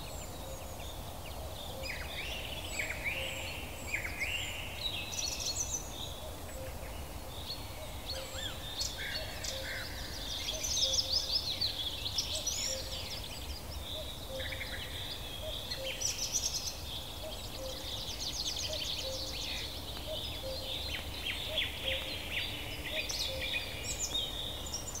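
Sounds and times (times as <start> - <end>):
low background noise: 0.0 - 25.0
small birds singing and chirping: 0.0 - 25.0.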